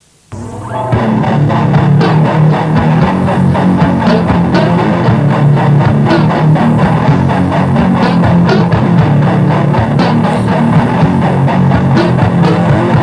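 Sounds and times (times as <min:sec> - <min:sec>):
heavy metal band playing: 0:00.4 - 0:13.0.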